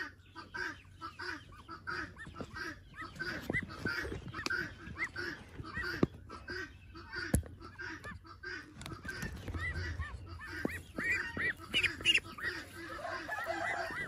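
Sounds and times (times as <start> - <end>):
duck low honking calls: 0.0 - 14.0
ducklings peeping: 0.0 - 14.0.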